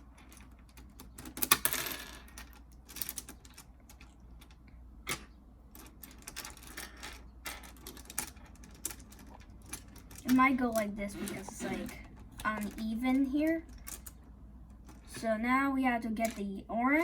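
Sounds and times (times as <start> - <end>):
plastic puzzle pieces clicking: 0.0 - 15.2.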